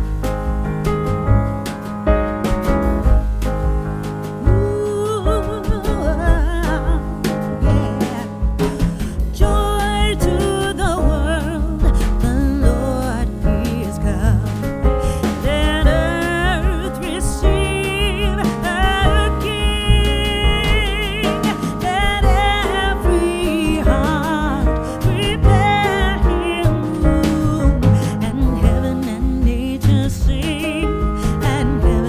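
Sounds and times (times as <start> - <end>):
steady beat and bass: 0.0 - 32.0
song with sung vocals: 4.4 - 32.0.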